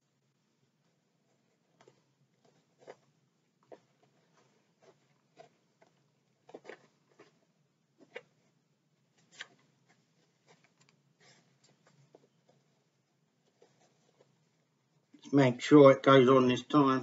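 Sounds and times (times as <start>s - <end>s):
shoelaces rustling: 0.8s - 15.3s.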